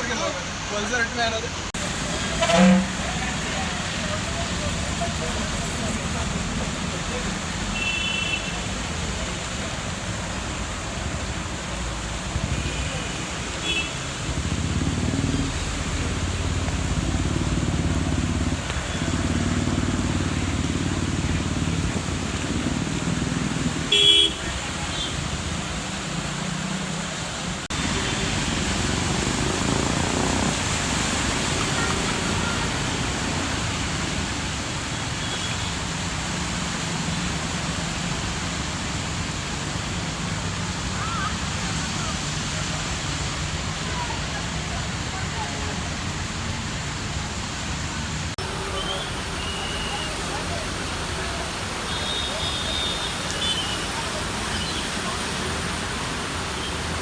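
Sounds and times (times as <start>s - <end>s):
heavy rain on wet road: 0.0s - 57.0s
low traffic hum: 0.0s - 57.0s.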